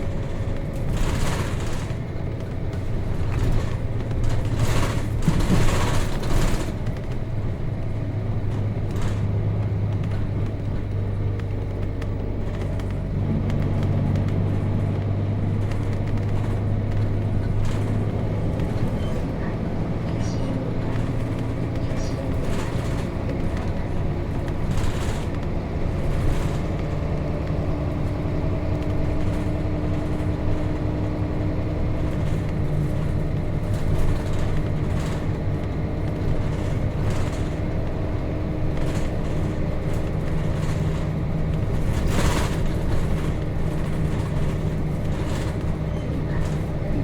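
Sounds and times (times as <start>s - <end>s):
bus diesel engine running: 0.0s - 47.0s.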